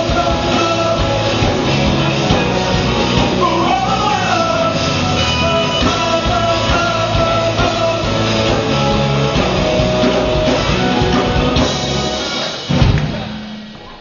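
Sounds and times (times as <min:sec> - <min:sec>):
person singing: 0:00.0 - 0:12.3
drums: 0:00.0 - 0:14.0
electric guitar: 0:00.0 - 0:14.0.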